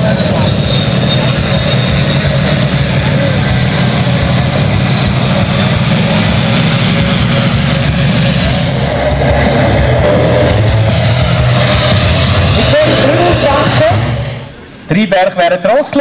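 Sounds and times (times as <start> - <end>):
model jet turbine rumble: 0.0 - 15.0.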